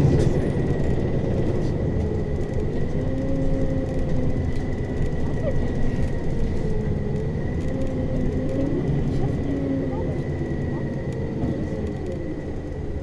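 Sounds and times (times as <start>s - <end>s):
bus engine and drivetrain hum: 0.0s - 13.0s
road rumble: 0.0s - 13.0s.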